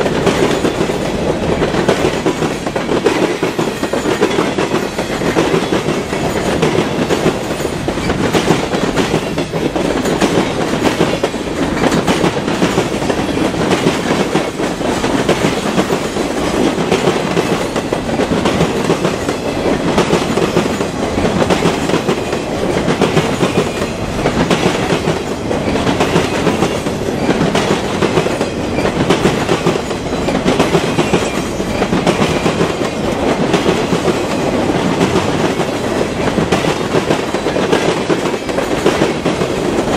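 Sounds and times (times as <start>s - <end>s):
train wheels rumbling on rail: 0.0s - 39.9s
wheels clacking over rail joints: 0.0s - 39.9s.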